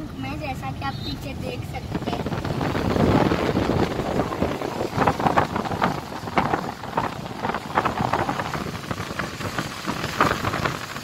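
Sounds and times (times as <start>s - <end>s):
gusts buffeting microphone: 0.0s - 11.0s
road noise on wet road: 0.0s - 11.0s
wind rushing at moving car: 0.0s - 11.0s.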